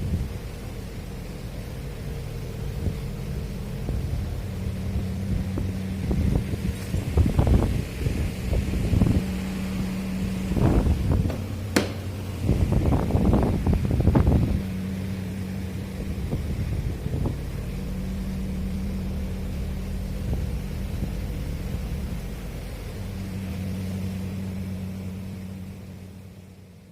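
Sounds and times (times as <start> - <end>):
steady mechanical hum: 0.0 - 26.9.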